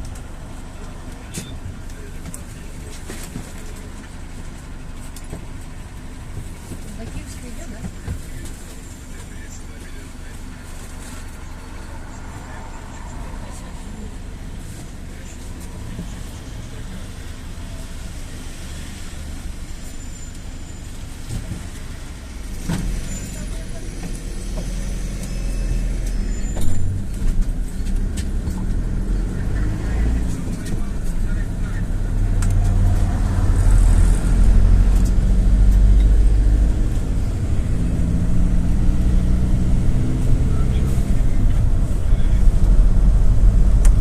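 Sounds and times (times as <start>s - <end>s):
minibus engine and road rumble: 0.0s - 44.0s.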